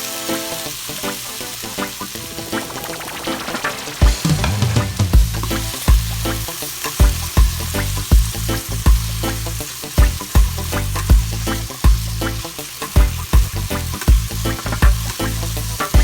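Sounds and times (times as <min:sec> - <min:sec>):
food sizzling in a frying pan: 0:00.0 - 0:16.0
music with thumping beat: 0:02.7 - 0:16.0.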